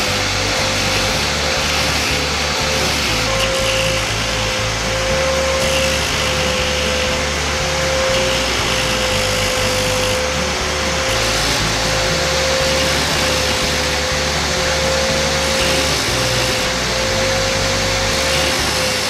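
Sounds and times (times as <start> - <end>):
angle grinder whining on metal: 0.0 - 19.0
background music with low beat: 0.0 - 19.0.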